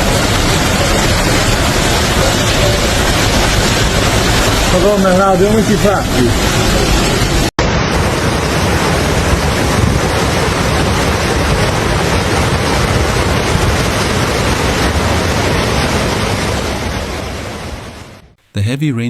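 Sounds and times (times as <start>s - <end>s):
floodwater rushing: 0.0s - 18.2s.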